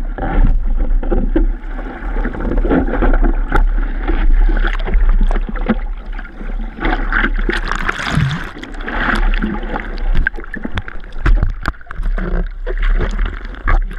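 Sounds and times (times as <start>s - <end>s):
water splashing around surfboard: 0.0s - 13.9s.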